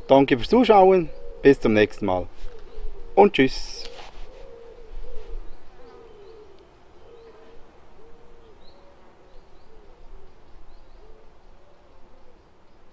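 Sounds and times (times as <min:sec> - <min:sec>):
bird low cooing: 0:00.0 - 0:12.8.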